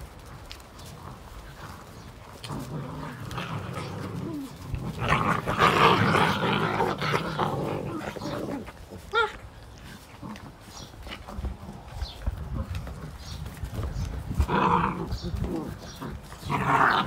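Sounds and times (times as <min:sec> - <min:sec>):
puppies growling and snarling: 0:00.0 - 0:17.0.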